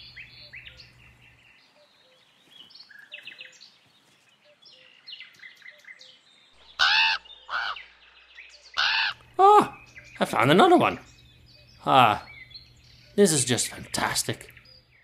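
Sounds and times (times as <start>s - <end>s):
forest birds chirping: 0.0s - 15.0s
loud bird calls: 0.0s - 15.0s.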